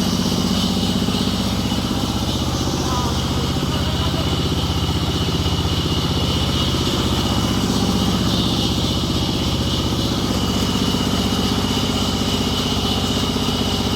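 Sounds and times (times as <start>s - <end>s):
thin high whine: 0.0s - 13.2s
engine chugging steadily: 0.0s - 13.9s.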